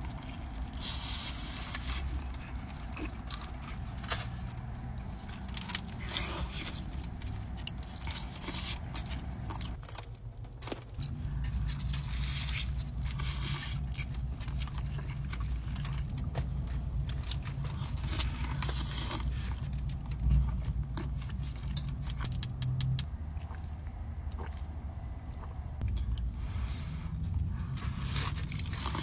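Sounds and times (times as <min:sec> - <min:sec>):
chewing and lip-smacking: 0:00.0 - 0:10.0, 0:10.7 - 0:29.0
low hum inside car: 0:00.0 - 0:29.0.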